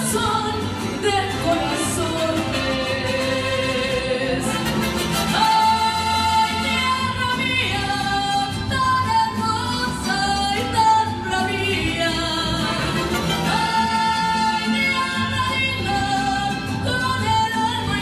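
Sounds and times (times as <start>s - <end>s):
bass guitar: 0.0s - 18.0s
guitars playing: 0.0s - 18.0s
person singing: 0.0s - 18.0s.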